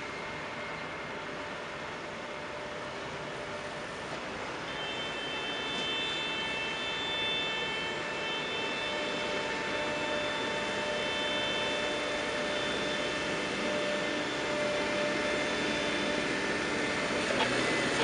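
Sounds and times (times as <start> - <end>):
track machine engine whine: 0.0 - 18.0.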